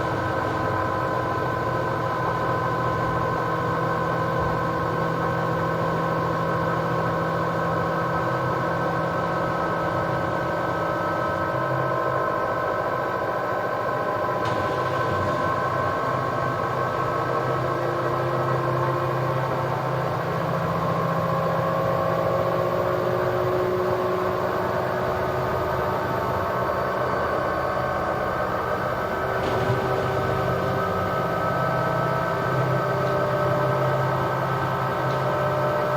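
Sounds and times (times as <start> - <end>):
washing machine spin cycle hum: 0.0 - 35.9.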